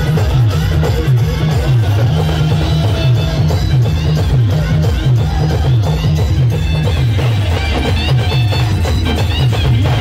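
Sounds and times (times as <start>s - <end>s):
loud band music over speakers: 0.0s - 10.0s.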